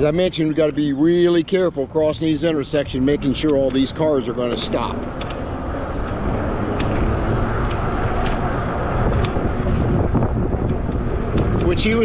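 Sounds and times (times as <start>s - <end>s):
bike tyre and wind rumble: 0.0s - 12.0s.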